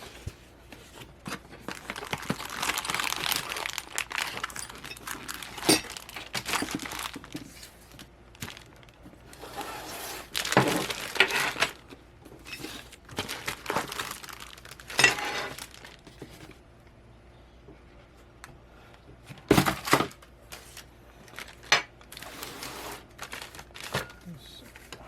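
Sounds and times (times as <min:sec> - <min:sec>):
plastic and paper crinkling: 0:00.0 - 0:16.6, 0:19.5 - 0:25.0.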